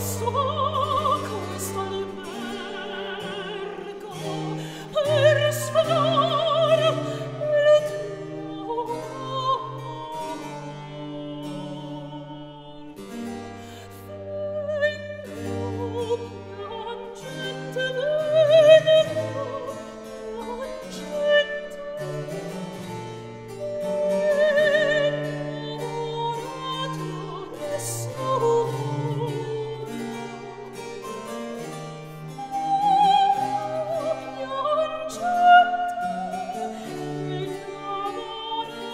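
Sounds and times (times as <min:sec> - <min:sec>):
operatic singing: 0:00.0 - 0:23.0, 0:23.6 - 0:38.9.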